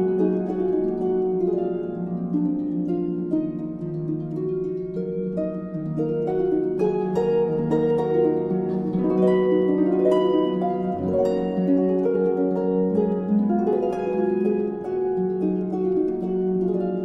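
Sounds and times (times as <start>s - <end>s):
harp-like plucked string melody: 0.0s - 17.0s.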